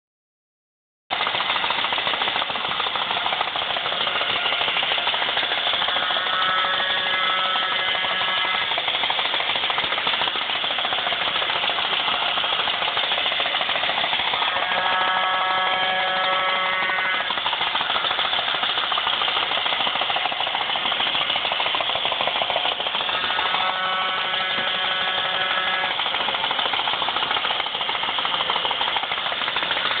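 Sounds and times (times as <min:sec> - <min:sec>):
toy boat motor rattling: 0:01.1 - 0:30.0.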